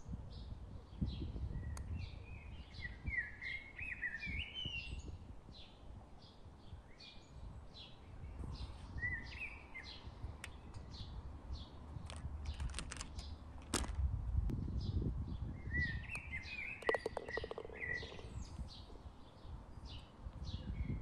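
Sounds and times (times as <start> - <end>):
birds singing and chirping: 0.0 - 13.5, 14.5 - 21.0
wind rumble on microphone: 0.0 - 21.0.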